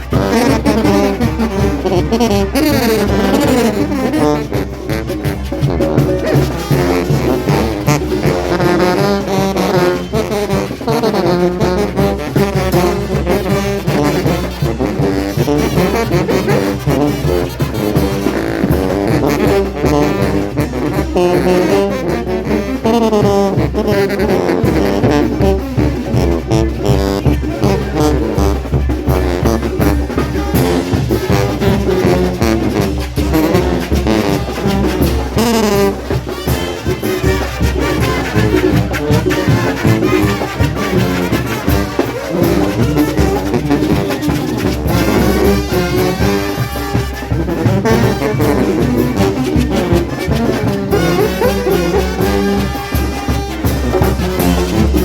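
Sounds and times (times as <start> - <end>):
brass band playing dance tune: 0.0 - 55.0
drums keeping steady beat: 0.0 - 55.0.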